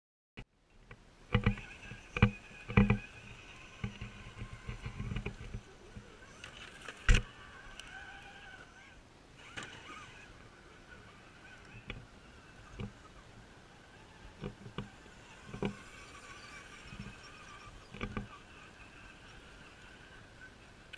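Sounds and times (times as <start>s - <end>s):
faint high whine: 0.5s - 20.9s.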